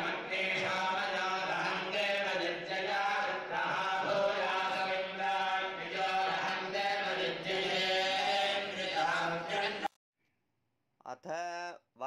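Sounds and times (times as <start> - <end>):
melodic chanting: 0.0 - 9.9.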